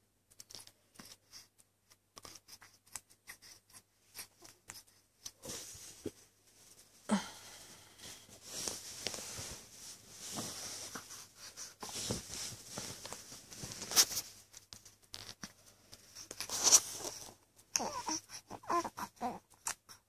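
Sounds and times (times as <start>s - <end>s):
soft rustling and scratching: 0.3s - 18.9s.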